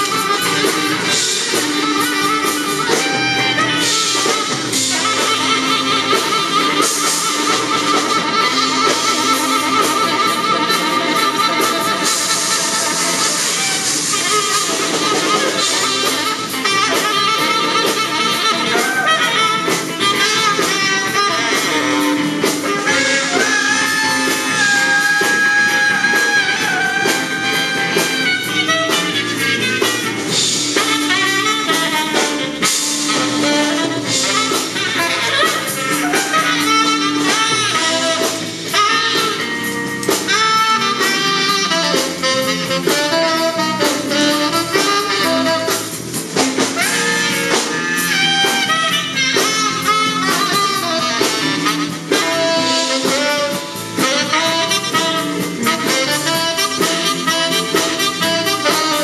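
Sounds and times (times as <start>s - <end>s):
electric guitar accompaniment: 0.0s - 59.0s
saxophone melody: 0.0s - 59.0s.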